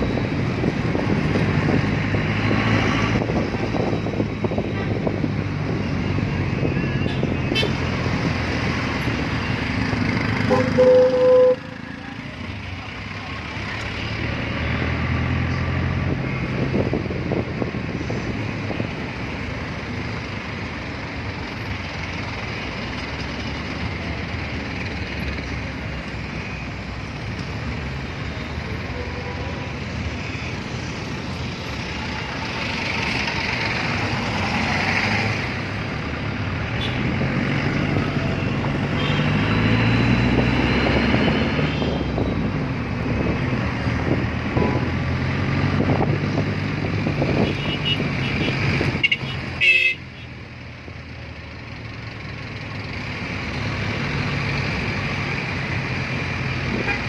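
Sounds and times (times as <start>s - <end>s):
street traffic: 0.0s - 57.0s.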